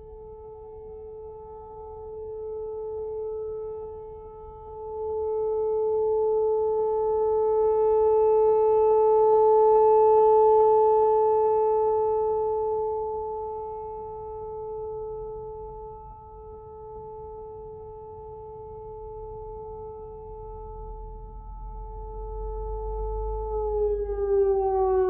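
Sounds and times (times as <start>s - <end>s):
warning siren steady tone: 0.0s - 25.0s.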